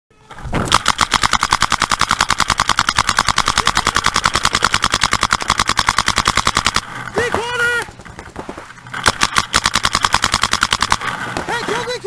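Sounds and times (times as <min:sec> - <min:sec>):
paintball marker rapid firing: 0:00.6 - 0:12.0.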